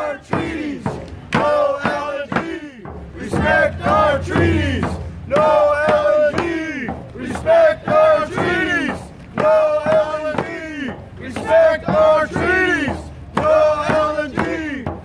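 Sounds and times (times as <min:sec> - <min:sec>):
group singing chant-like song: 0:00.0 - 0:15.0
hand drums beating: 0:00.0 - 0:15.0.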